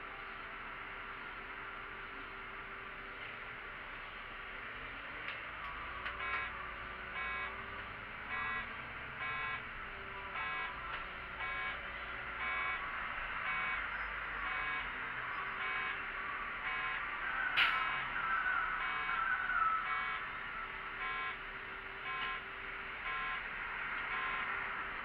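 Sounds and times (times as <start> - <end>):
bus engine rumble: 0.0 - 25.0
bus warning beeps: 4.9 - 25.0.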